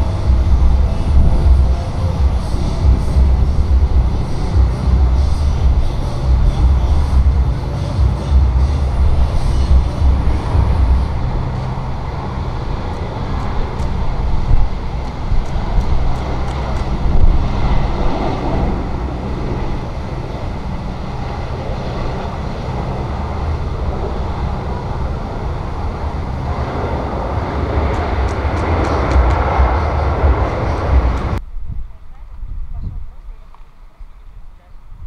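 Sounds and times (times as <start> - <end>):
jet engine rumble landing: 0.0 - 35.0.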